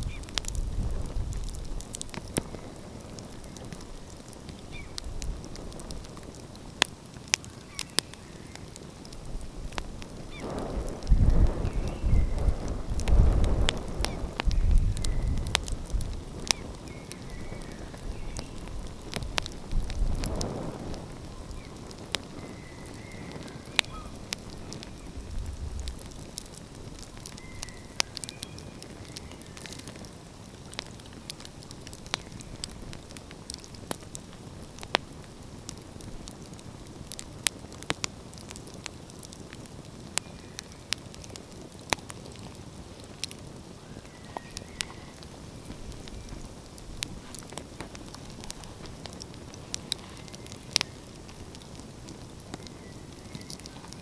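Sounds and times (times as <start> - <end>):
steady low hiss: 0.0 - 54.0
wood fire crackling and popping: 0.0 - 54.0.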